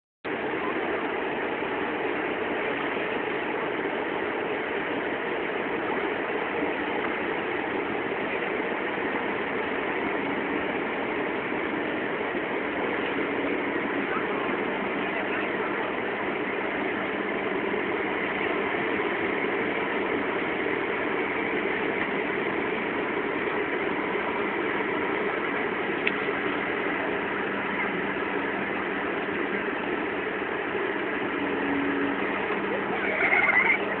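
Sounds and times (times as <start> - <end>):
ship engines droning: 0.3 - 34.0.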